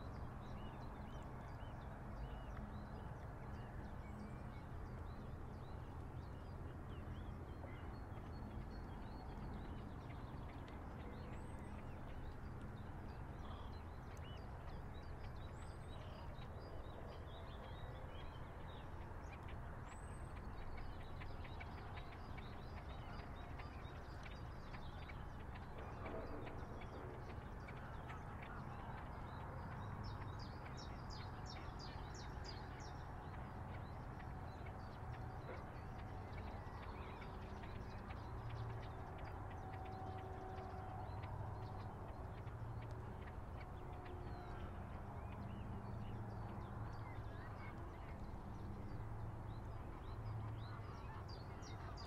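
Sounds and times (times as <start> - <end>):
low steady hum: 0.0 - 52.0
water birds chirping: 0.0 - 52.0.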